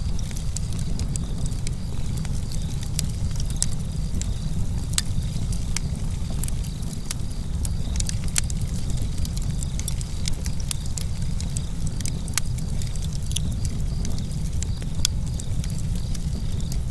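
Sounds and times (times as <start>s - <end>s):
campfire crackling and popping: 0.0s - 16.9s
crickets chirping: 0.0s - 16.9s
low rumble of flames and breeze: 0.0s - 16.9s.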